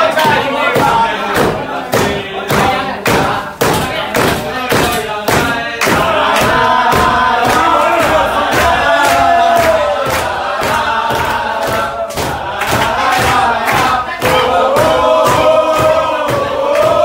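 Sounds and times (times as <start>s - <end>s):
hand claps: 0.0s - 17.0s
men chanting a song: 0.0s - 17.0s.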